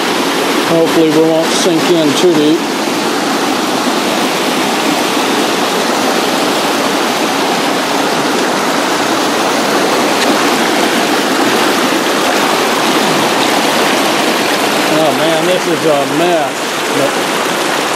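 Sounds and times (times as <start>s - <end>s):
creek water rushing: 0.0s - 17.9s.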